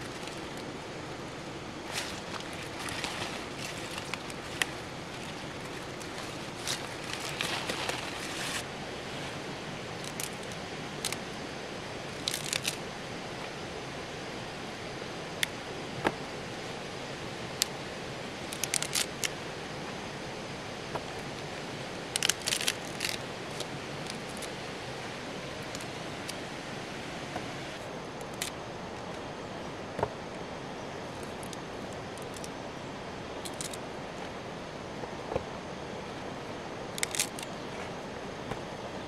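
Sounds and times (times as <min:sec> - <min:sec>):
steady outdoor hiss: 0:00.0 - 0:39.0.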